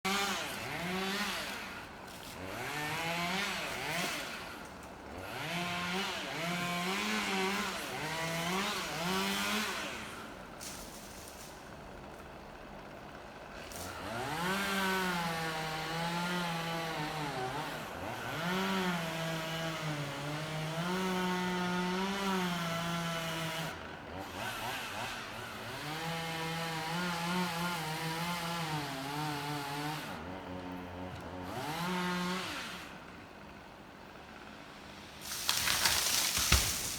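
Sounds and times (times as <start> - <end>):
chainsaw cutting branches: 0.0 - 36.9.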